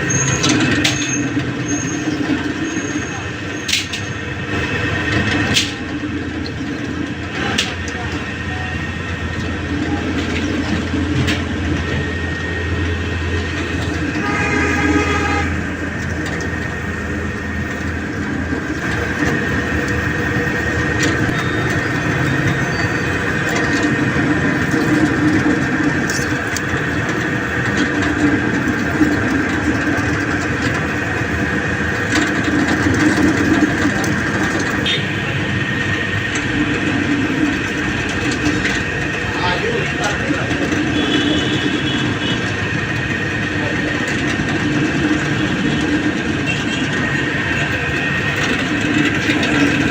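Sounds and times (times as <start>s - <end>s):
loud mechanical noise: 0.0s - 49.9s.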